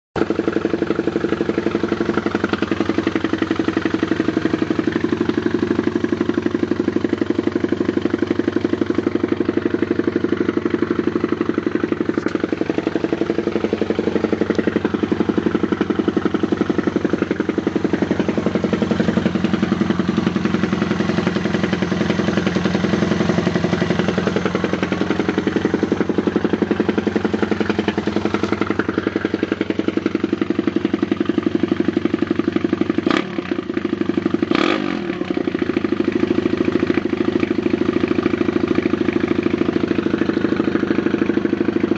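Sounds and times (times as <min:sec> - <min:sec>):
motorbike engine idling: 0:00.2 - 0:41.9.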